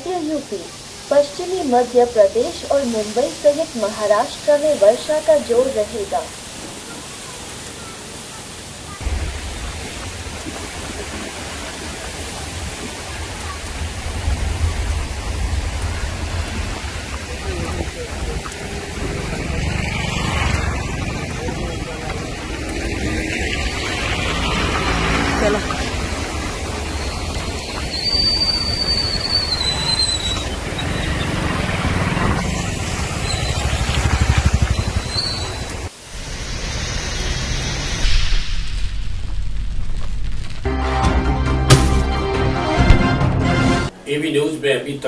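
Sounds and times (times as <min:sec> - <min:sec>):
heavy rain: 0:00.0 - 0:40.8
floodwater flowing across road: 0:00.2 - 0:37.8.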